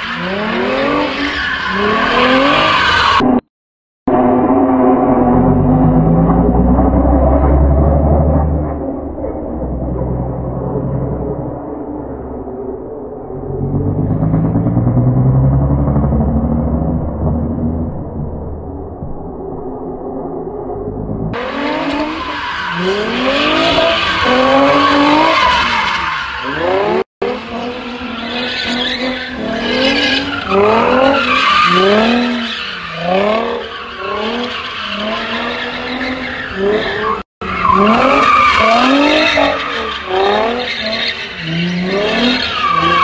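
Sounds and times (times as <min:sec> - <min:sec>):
car engine revving: 0:04.2 - 0:18.6, 0:20.6 - 0:43.0.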